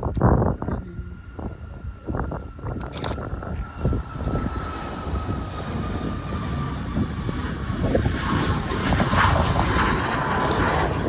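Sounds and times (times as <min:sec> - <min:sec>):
jet engines at takeoff: 0:00.0 - 0:11.0.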